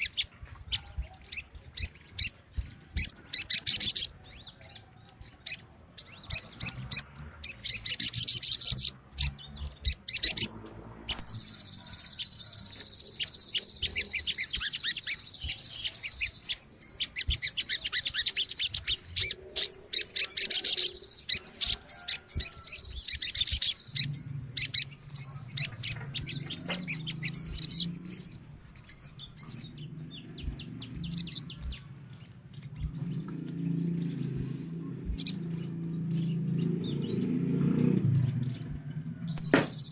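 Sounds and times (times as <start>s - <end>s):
birds chattering trills: 0.0s - 39.9s.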